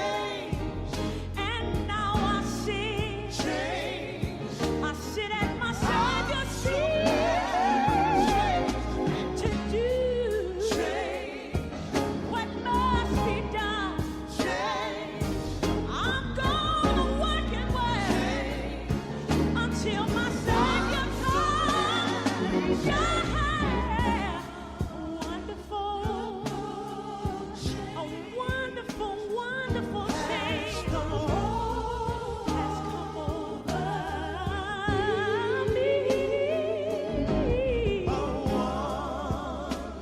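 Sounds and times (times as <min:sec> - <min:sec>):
bass line: 0:00.0 - 0:28.0, 0:29.7 - 0:40.0.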